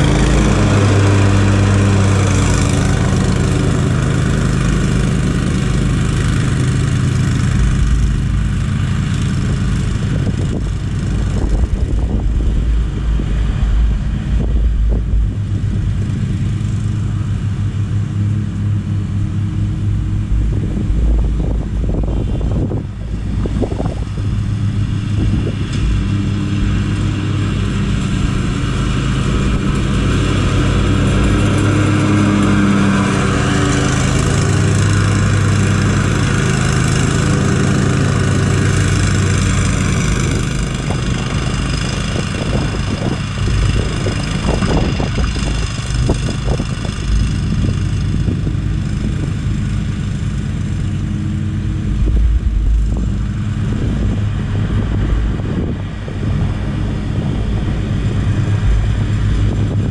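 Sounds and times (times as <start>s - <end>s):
riding mower engine running: 0.0s - 59.9s.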